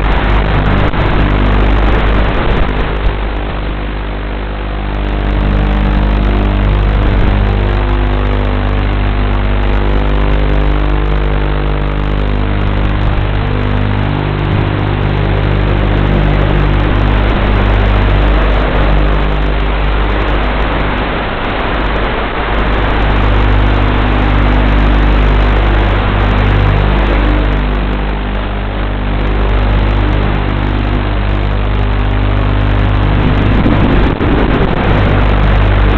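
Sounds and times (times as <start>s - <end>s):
drone motors humming and whining: 0.0s - 35.9s.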